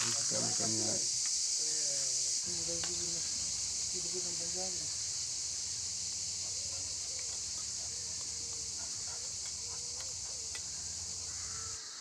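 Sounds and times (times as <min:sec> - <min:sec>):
cicadas chirring: 0:00.0 - 0:12.0.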